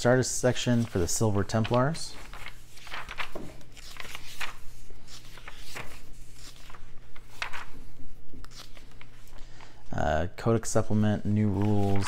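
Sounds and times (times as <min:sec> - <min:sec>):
magazine pages flipping: 0:00.4 - 0:09.8, 0:11.2 - 0:12.0.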